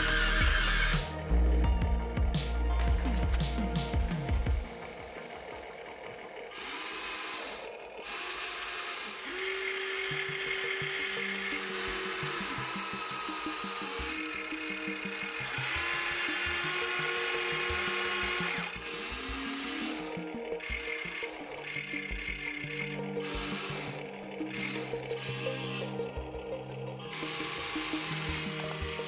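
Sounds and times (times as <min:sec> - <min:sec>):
toy excavator motors whining: 0:00.0 - 0:01.2, 0:02.7 - 0:03.5, 0:04.4 - 0:29.0.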